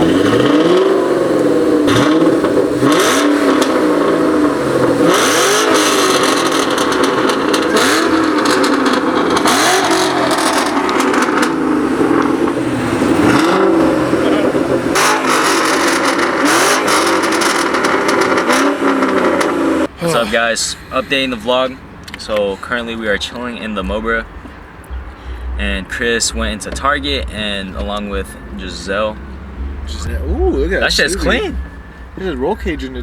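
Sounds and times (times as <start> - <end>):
car engine revving: 0.0 - 20.0, 23.6 - 33.0.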